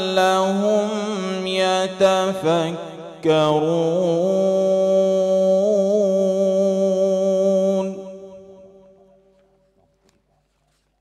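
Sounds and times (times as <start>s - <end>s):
man chanting melodically: 0.0s - 9.1s.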